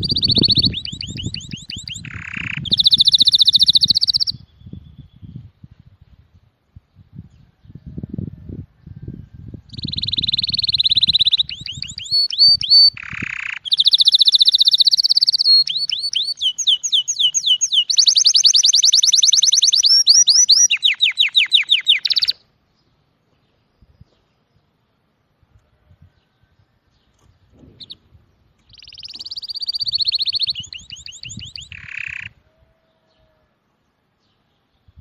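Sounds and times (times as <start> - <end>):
songbird singing trills: 0.0 - 5.6, 6.3 - 25.0, 25.9 - 35.0.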